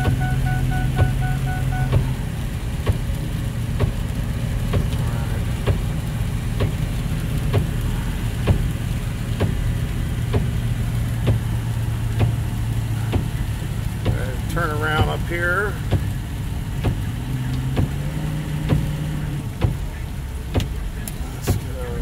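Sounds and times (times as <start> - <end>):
diesel engine running: 0.0 - 22.0
rain on vehicle: 0.0 - 22.0
road noise: 0.0 - 22.0
windshield wipers ticking: 0.0 - 22.0.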